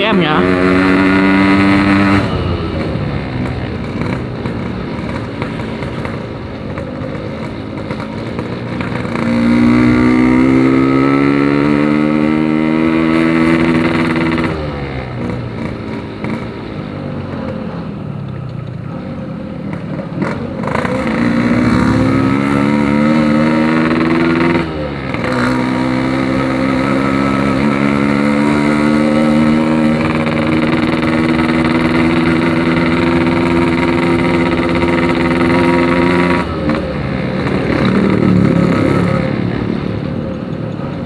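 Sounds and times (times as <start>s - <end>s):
two-stroke motorcycle engine revving: 0.0s - 41.0s.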